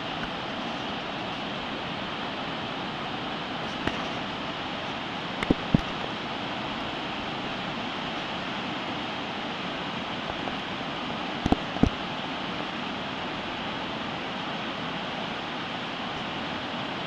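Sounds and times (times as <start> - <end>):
whitewater river rushing: 0.0 - 17.0.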